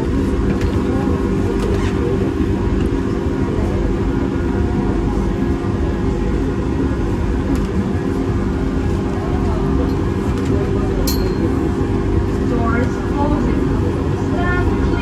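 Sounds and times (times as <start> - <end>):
train running inside carriage: 0.0 - 15.0.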